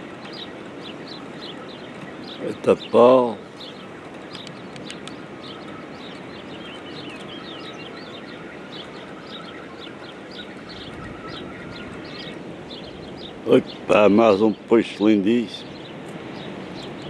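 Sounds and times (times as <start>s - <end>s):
steady background rush: 0.0s - 14.1s
small birds chirping: 0.0s - 17.0s.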